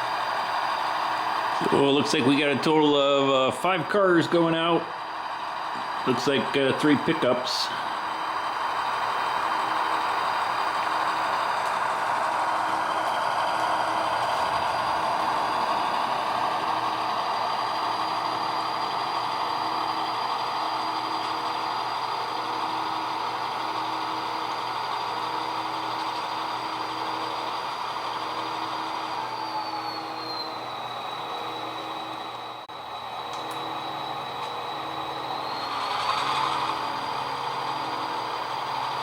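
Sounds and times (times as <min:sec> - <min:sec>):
diesel engine sound from small speaker: 0:00.0 - 0:39.0.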